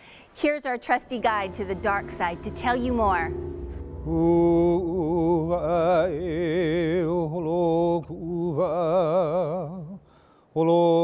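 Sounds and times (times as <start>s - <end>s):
man chanting with vibrato: 1.2s - 10.1s.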